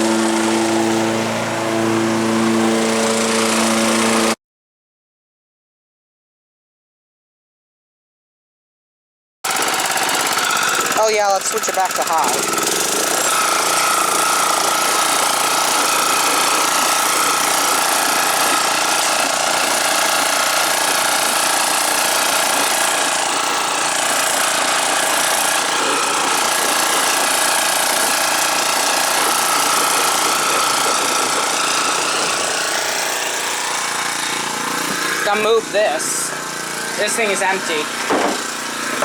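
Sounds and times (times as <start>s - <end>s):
lawnmower engine running: 0.0s - 4.4s, 9.5s - 39.0s.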